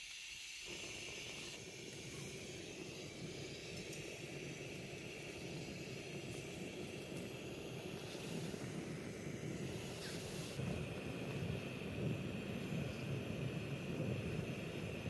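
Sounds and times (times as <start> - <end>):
gas stove burner rushing: 0.0 - 15.0.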